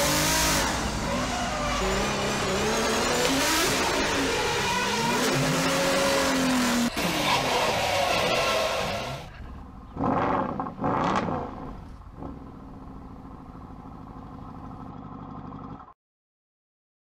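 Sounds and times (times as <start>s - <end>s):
simulated car engine revving and idling: 0.0s - 15.9s.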